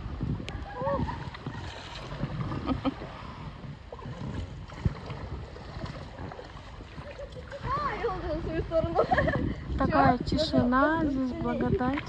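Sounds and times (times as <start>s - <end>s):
paddles splashing in water: 0.0s - 9.8s.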